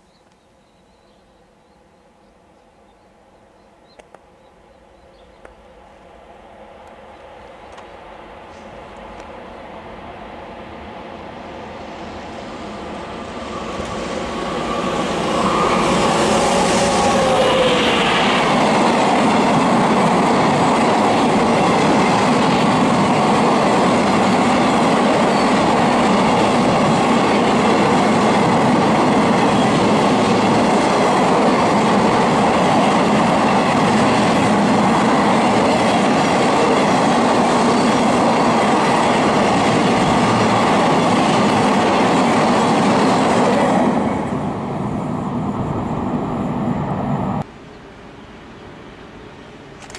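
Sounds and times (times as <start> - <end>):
locomotive passing: 5.6 - 47.5.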